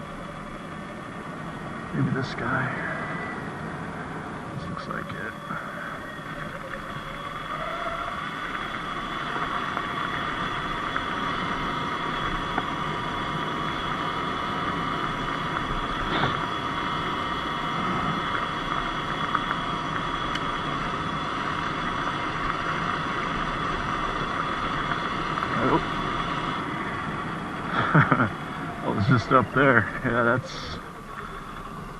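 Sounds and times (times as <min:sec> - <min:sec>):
electric motor whine: 0:00.0 - 0:31.9.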